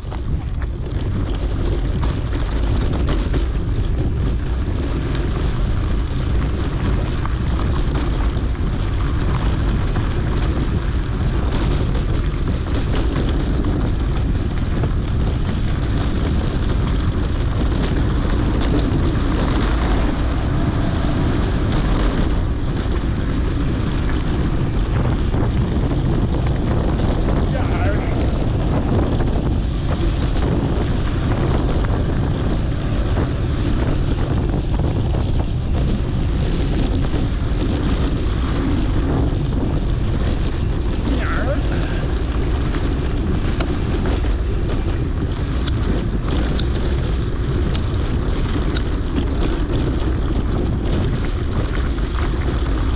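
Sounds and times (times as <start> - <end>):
bike rolling over dirt trail: 0.0 - 52.9
faint rattles: 0.0 - 52.9
wind buffeting microphone: 0.0 - 52.9.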